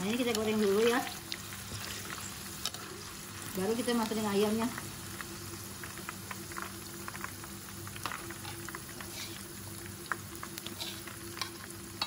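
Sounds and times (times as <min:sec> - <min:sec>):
oil sizzling and bubbling: 0:00.0 - 0:12.0
crackles and pops in oil: 0:00.2 - 0:02.9, 0:04.0 - 0:09.1, 0:09.8 - 0:12.0.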